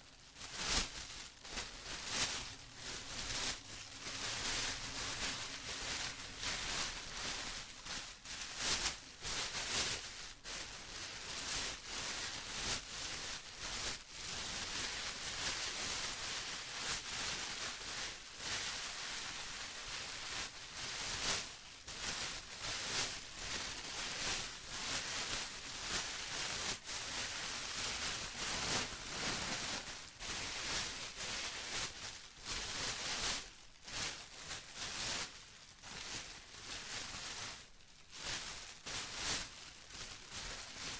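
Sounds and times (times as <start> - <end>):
plastic crinkling by hand: 0.0 - 40.9.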